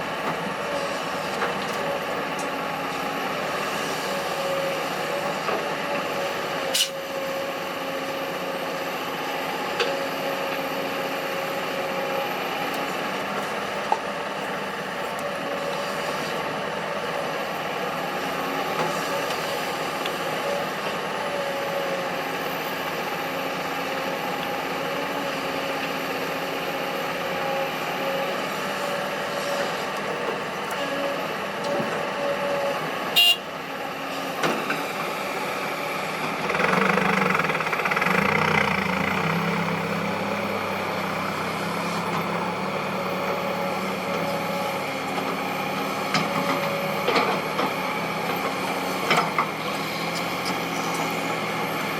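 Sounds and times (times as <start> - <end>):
diesel machinery engines running: 0.0 - 51.9.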